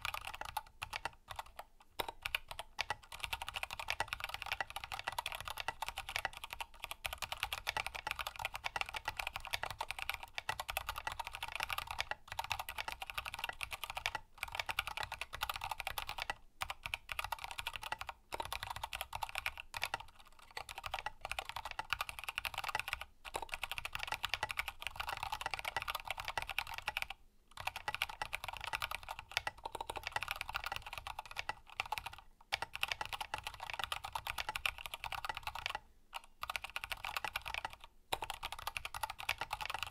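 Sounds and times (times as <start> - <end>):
mechanical keyboard typing clacks: 0.0 - 39.9.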